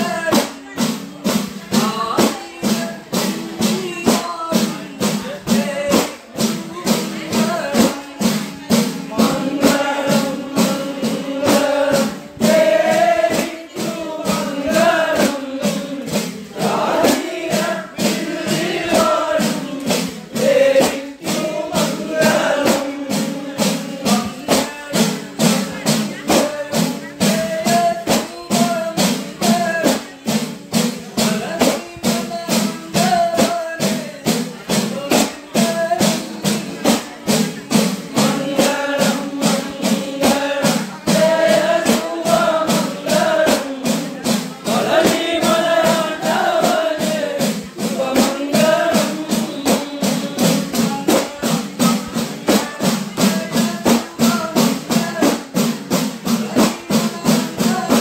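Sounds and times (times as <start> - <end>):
fast hand drum beat: 0.0 - 58.0
men singing through a pa: 0.0 - 58.0.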